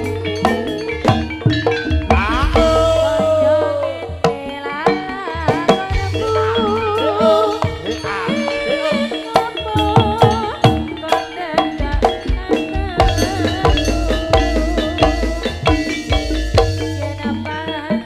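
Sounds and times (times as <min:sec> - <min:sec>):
hand-drum strokes: 0:00.0 - 0:18.0
ringing metal percussion: 0:00.0 - 0:18.0.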